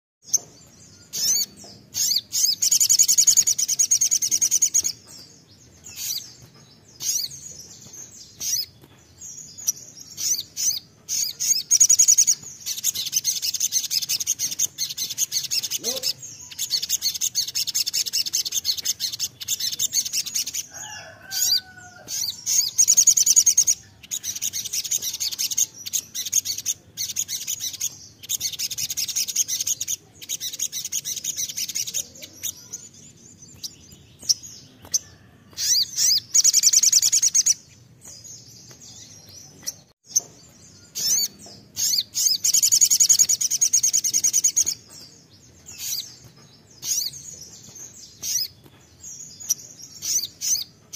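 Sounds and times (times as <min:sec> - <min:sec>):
bird singing high trills: 0:00.2 - 0:50.9.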